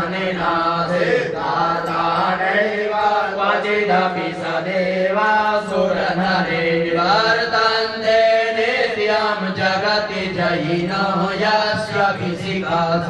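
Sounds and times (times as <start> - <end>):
mantras chanted: 0.0 - 13.0.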